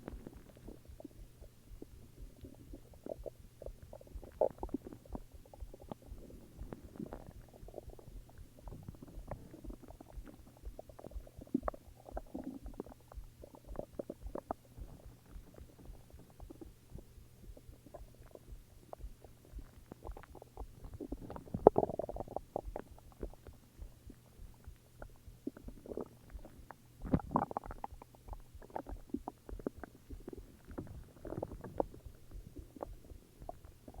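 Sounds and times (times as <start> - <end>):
stomach growling and gurgling: 0.0 - 34.0.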